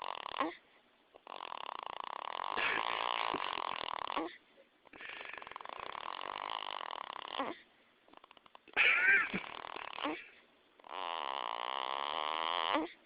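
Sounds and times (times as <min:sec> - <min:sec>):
baby snoring: 0:00.0 - 0:00.6, 0:01.2 - 0:13.0.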